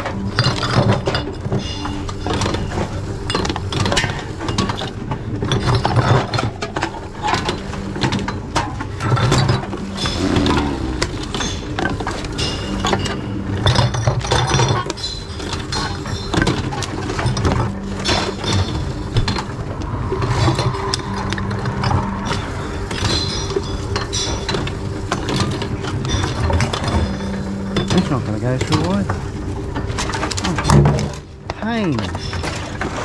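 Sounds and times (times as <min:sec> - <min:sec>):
clinks of glass and cans: 0:00.0 - 0:19.5, 0:22.1 - 0:33.0
intake motor humming: 0:00.0 - 0:33.0.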